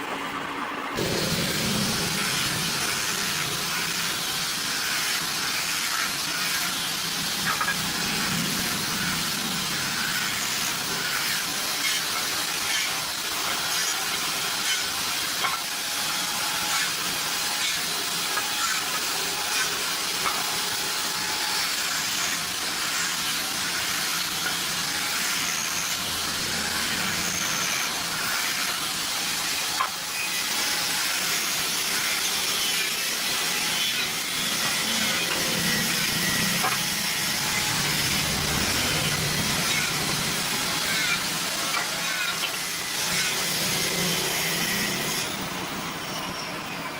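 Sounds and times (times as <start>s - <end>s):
woodworking machine hissing: 1.0s - 46.9s.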